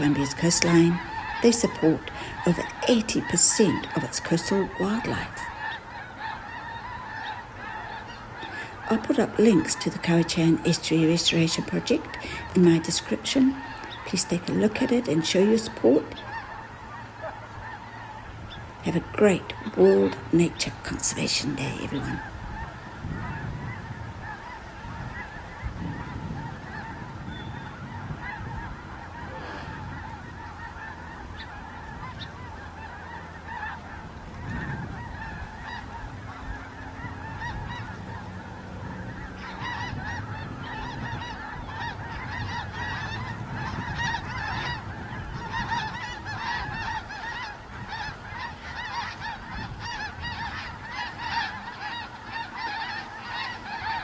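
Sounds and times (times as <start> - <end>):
geese honking: 0.0 - 54.0.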